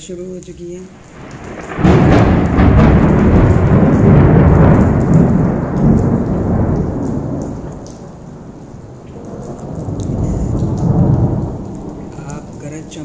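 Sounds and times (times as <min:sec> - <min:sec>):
heavy rain hissing: 0:00.0 - 0:13.0
thunder rumbling: 0:00.8 - 0:13.0.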